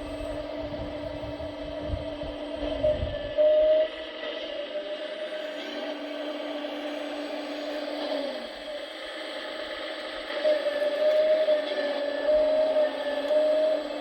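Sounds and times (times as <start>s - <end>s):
hydraulic pump whining: 0.0s - 14.0s.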